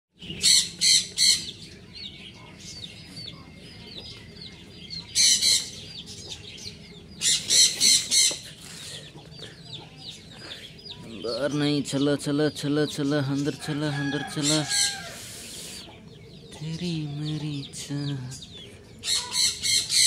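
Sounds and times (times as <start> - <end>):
harsh high-pitched bird calls: 0.2 - 20.0.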